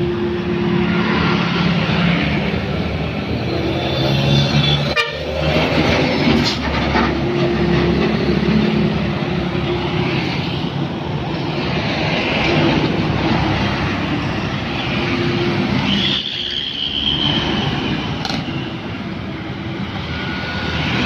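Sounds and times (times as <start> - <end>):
diesel trucks passing: 0.0 - 21.0
motorbikes passing: 0.0 - 21.0
tyre and road noise: 0.0 - 21.0.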